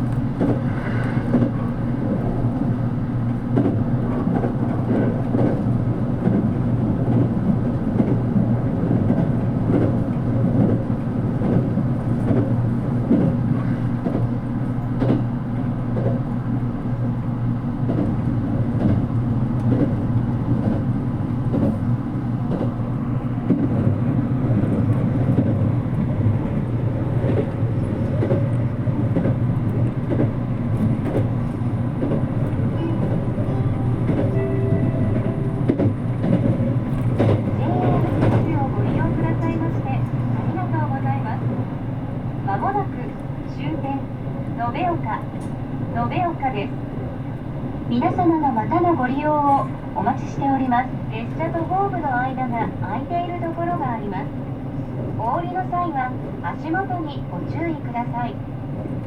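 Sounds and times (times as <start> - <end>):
train running low rumble: 0.0 - 59.0.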